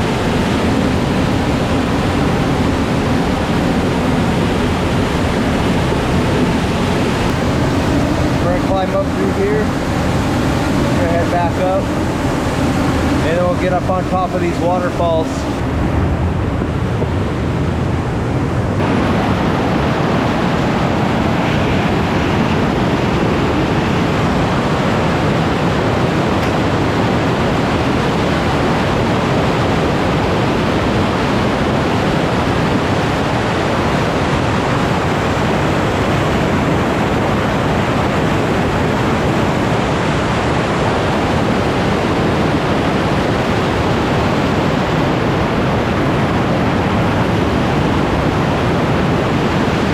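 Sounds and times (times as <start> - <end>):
waterfall rushing: 0.0 - 17.3, 18.6 - 49.9.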